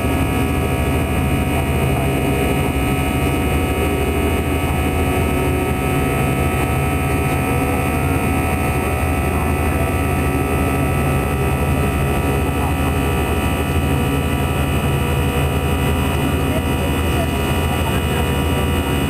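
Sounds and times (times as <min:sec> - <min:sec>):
jet engine and airflow rush: 0:00.0 - 0:19.0.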